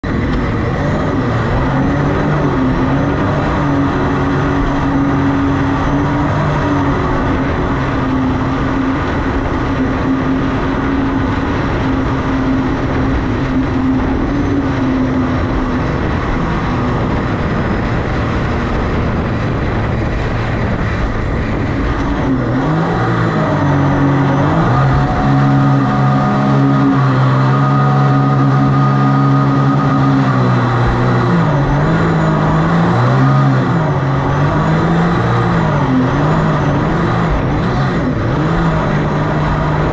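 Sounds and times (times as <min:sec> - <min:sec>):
boat engine running hard: 0:00.0 - 0:39.9
whitewater rushing: 0:00.0 - 0:39.9.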